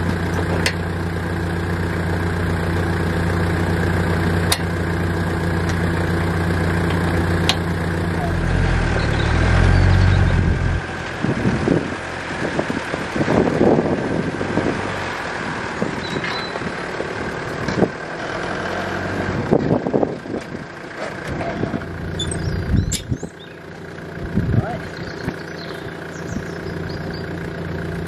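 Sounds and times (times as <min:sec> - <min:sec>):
van engine running: 0:00.0 - 0:28.0.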